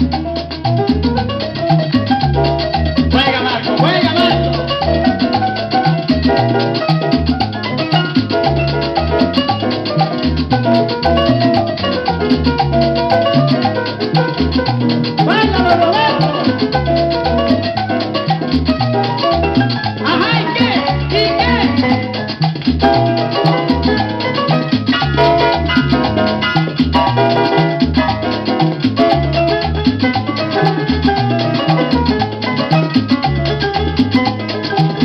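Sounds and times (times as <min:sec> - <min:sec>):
instrumental cumbia music: 0:00.0 - 0:35.0.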